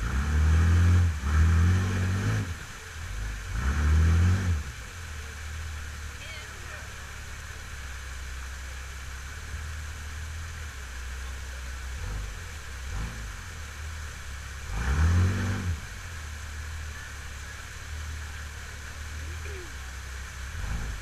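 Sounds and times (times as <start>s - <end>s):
off-road engine revving: 0.0s - 21.0s
rushing waterfall: 0.0s - 21.0s.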